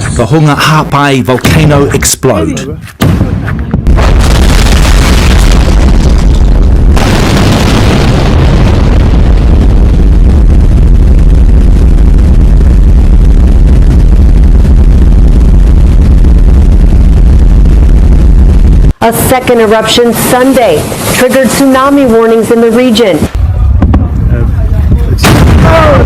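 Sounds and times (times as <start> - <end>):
volcanic eruption rumble: 3.8 - 26.0.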